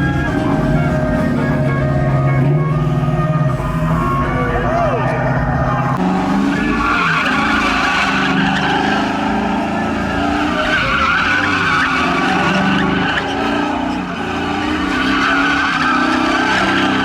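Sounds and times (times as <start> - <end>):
car engine at high revs: 0.0 - 17.0
tires squealing: 0.0 - 17.0.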